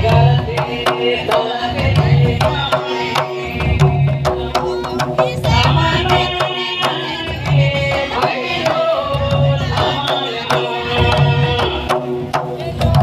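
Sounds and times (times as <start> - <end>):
barrel drums beating: 0.0 - 13.0
group singing: 0.0 - 13.0.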